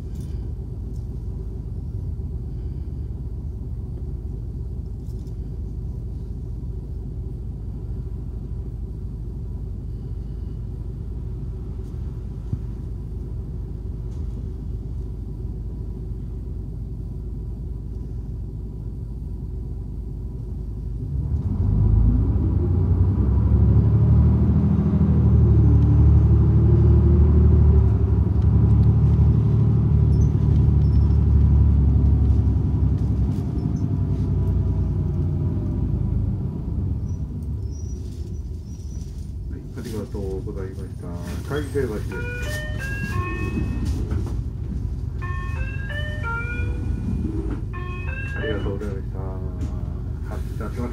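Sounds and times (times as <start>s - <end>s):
bus engine rumbling: 0.0s - 50.9s.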